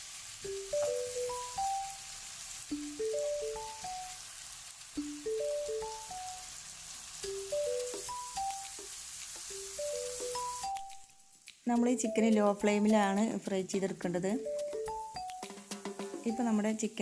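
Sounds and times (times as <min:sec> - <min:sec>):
chicken sizzling in a pan: 0:00.0 - 0:14.8, 0:15.8 - 0:17.0
simple melody background music: 0:00.4 - 0:04.3, 0:05.0 - 0:16.8.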